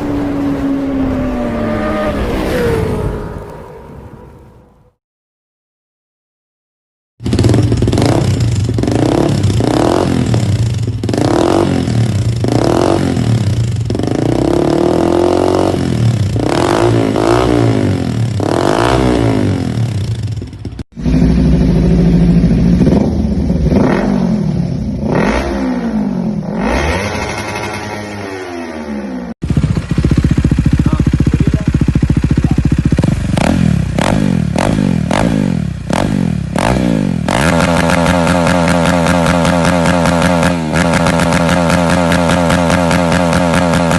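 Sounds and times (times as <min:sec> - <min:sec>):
motorcycle exhaust revving: 0:07.2 - 0:43.9.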